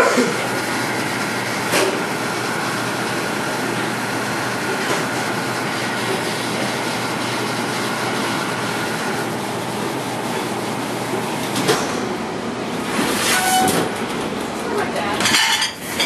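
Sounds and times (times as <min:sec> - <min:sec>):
dishwasher pump and motor running: 0:00.0 - 0:16.0.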